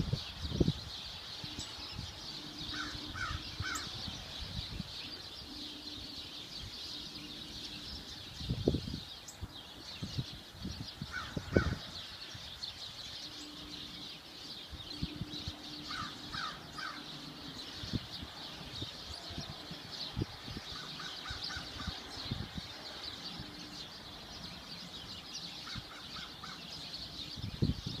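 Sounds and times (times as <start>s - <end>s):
steady high hiss: 0.0s - 28.0s.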